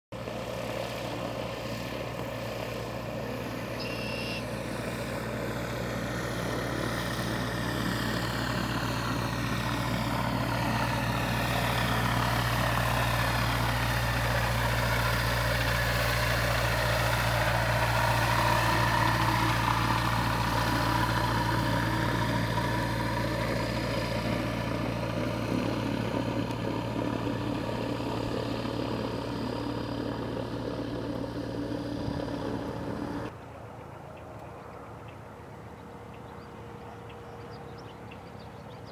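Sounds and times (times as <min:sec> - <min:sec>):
gyrocopter engine and propeller: 0:00.1 - 0:38.9.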